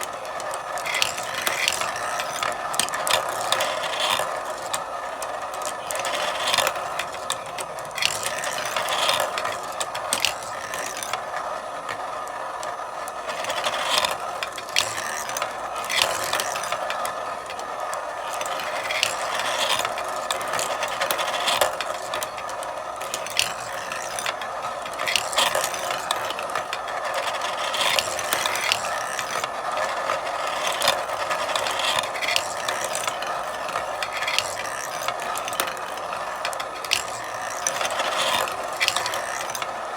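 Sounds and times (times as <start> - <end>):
marbles clicking: 0.0 - 39.9
marbles rolling on track: 0.0 - 39.9.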